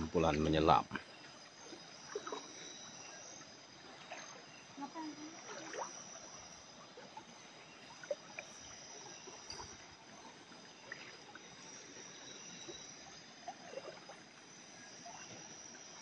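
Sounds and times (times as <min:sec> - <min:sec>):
stream water trickling: 0:00.0 - 0:16.0
small splashes and ticks: 0:00.2 - 0:16.0.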